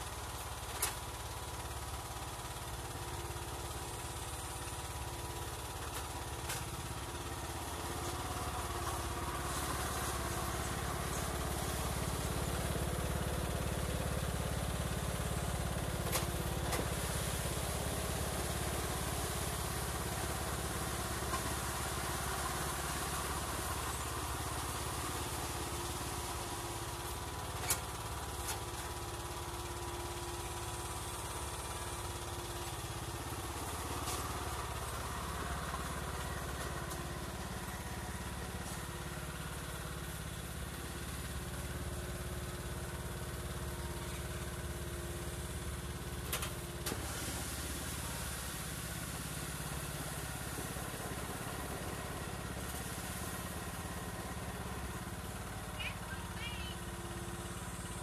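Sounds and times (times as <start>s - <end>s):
lawn mower engine running: 0.0s - 58.0s.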